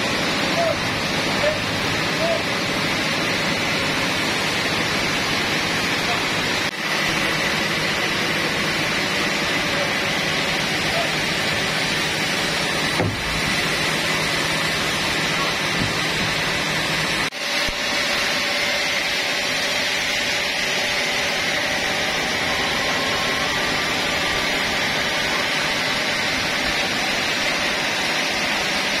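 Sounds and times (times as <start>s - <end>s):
sawmill machinery hum and whine: 0.0s - 29.0s.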